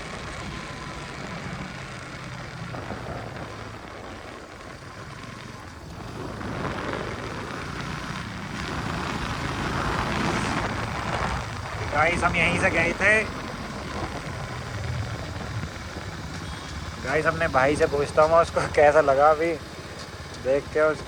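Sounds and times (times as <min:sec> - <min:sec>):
motorcycle engine running: 0:00.0 - 0:21.0
rushing noise: 0:00.0 - 0:21.0.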